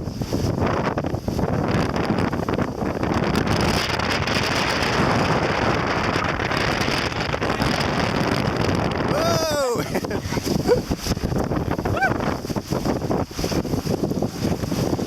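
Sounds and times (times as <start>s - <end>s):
water rushing past hulls: 0.0s - 15.0s
wind buffeting microphone: 0.0s - 15.0s.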